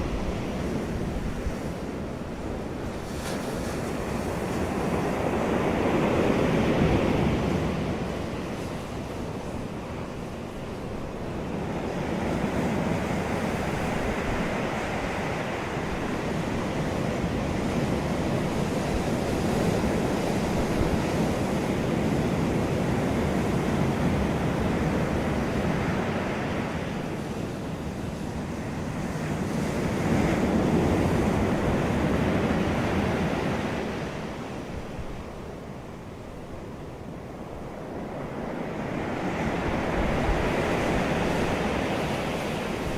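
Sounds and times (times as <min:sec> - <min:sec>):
rushing wind: 0:00.0 - 0:42.9.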